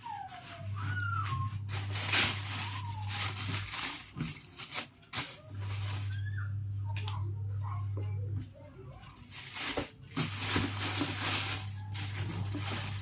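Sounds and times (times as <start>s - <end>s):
rustling handling noise: 0.0s - 6.5s, 8.4s - 13.0s.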